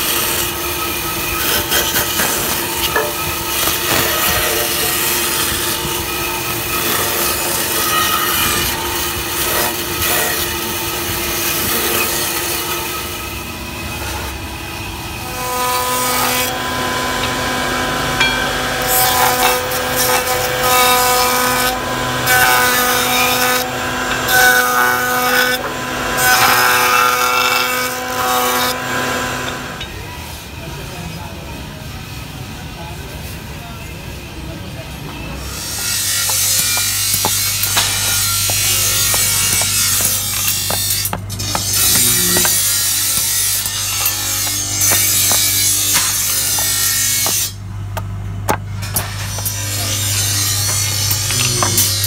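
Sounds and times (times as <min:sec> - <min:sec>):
router cutter shaping wood: 0:00.0 - 0:13.0, 0:15.2 - 0:29.9, 0:35.4 - 0:47.6, 0:49.2 - 0:52.0
bandsaw cutting wood: 0:00.0 - 0:13.2, 0:15.2 - 0:29.9, 0:35.4 - 0:47.6, 0:48.9 - 0:52.0.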